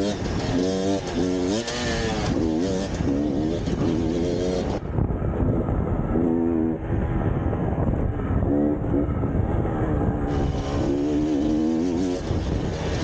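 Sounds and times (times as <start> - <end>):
dirt bike engine revving: 0.0 - 7.0, 8.2 - 13.0
constant rushing noise: 0.0 - 13.0.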